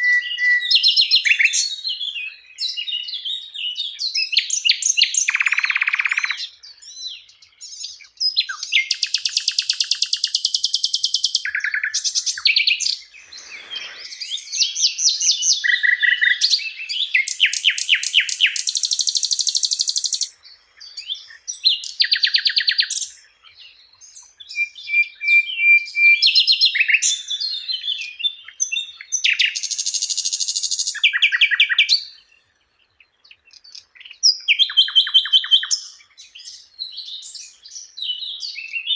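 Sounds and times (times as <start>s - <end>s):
flycatcher singing trills: 0.0s - 38.9s.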